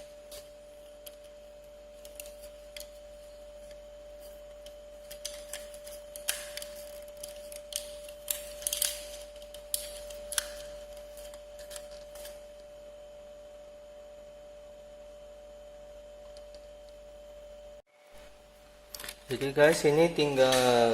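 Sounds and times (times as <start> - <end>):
faint high hum: 0.0 - 20.9.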